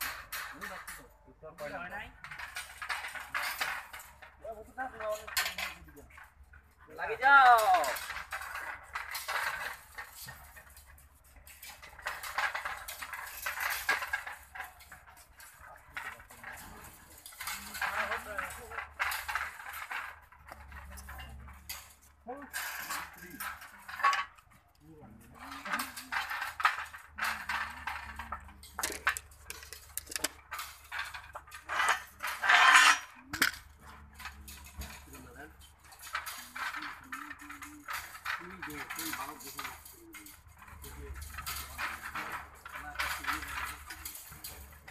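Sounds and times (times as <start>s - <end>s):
wire scraping and clinking: 0.0s - 44.9s.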